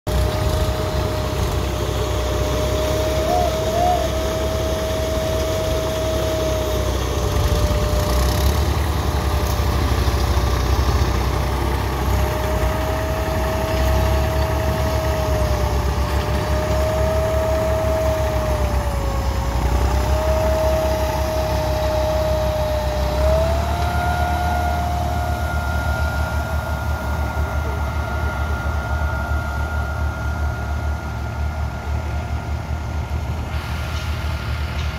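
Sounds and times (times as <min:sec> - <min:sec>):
diesel tractor engine running: 0:00.1 - 0:34.9
steady mechanical whine: 0:00.1 - 0:34.9.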